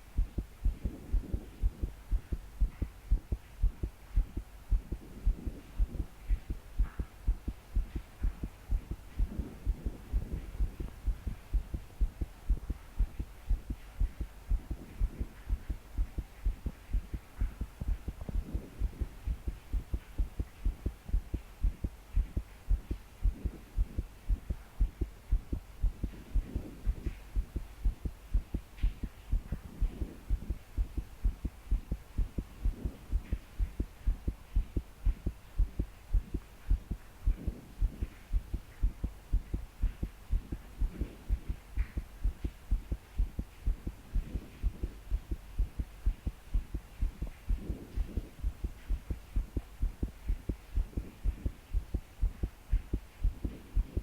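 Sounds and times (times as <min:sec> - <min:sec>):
fast pounding heartbeat: 0:00.0 - 0:54.0.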